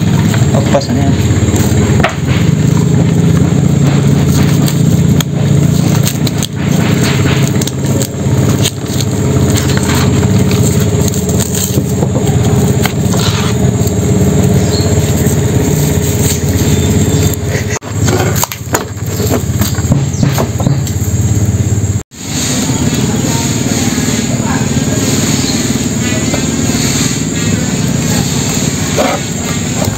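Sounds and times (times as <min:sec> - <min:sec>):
engine running steadily: 0:00.0 - 0:29.9.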